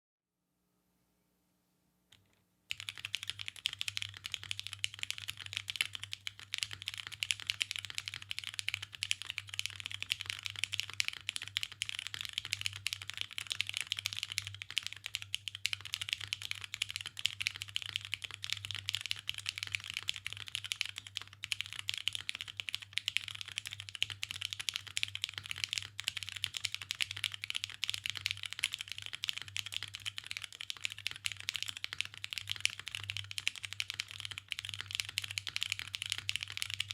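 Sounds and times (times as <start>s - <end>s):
fast mechanical keyboard typing: 2.7s - 36.9s.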